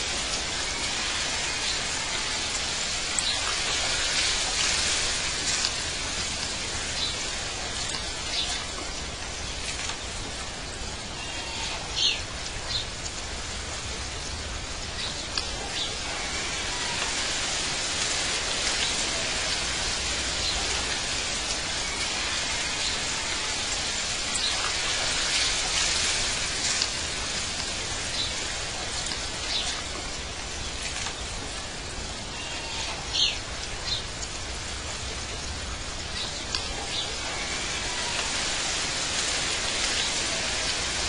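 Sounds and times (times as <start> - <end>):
steady hiss of rain or water: 0.0 - 41.0.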